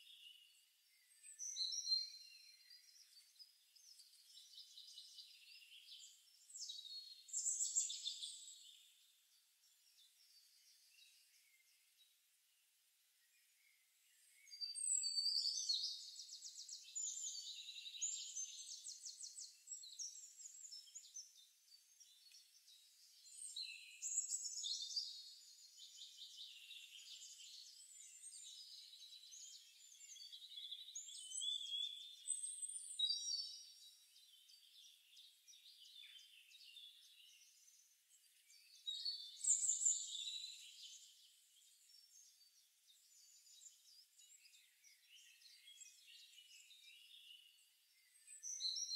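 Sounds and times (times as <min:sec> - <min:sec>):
songbirds trilling and chirping: 0:00.0 - 0:48.9.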